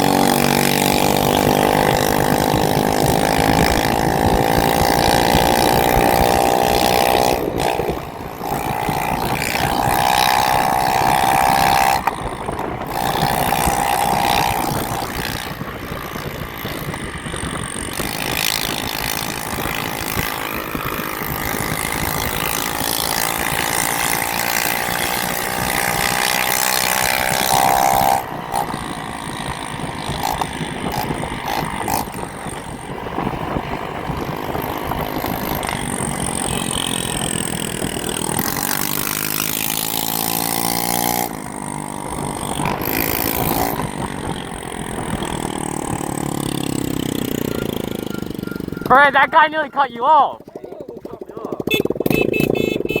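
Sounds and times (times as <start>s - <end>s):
road and wind noise: 0.0s - 53.0s
vehicle engines revving: 0.0s - 53.0s.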